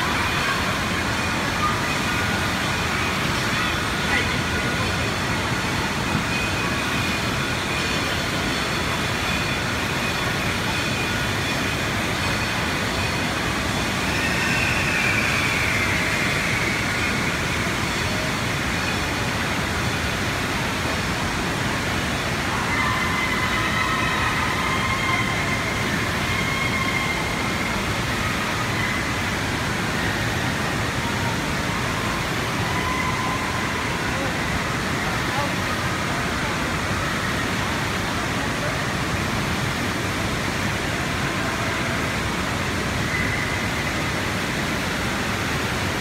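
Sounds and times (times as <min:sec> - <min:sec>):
water gushing into pool: 0:00.0 - 0:46.0.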